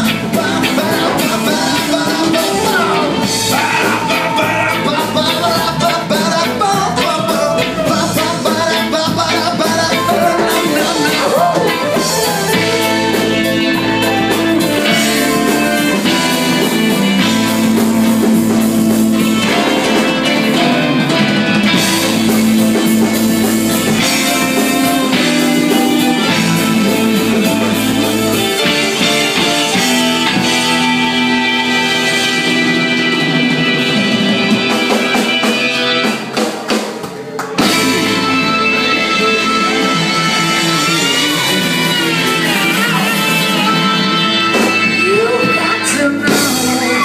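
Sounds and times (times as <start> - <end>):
live reggae band playing: 0.0 - 47.0.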